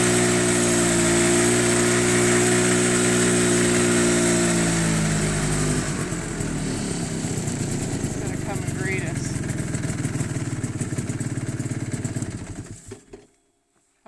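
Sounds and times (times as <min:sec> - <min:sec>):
vehicle engine running: 0:00.0 - 0:13.2.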